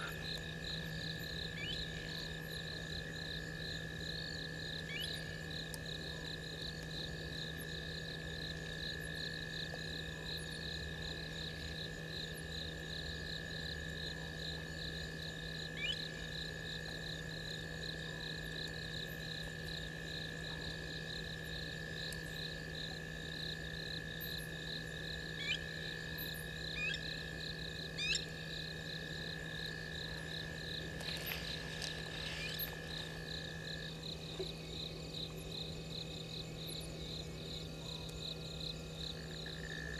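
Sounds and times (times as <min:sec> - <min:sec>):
crickets trilling: 0:00.0 - 0:39.9
high insect whine: 0:00.0 - 0:39.9.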